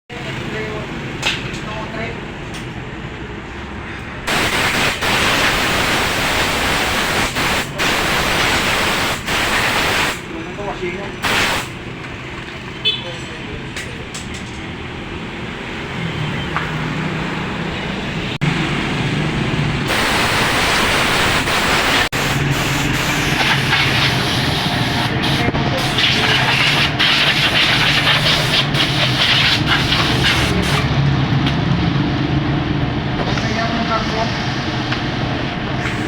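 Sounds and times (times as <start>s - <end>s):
wind and road noise: 0.2s - 36.0s.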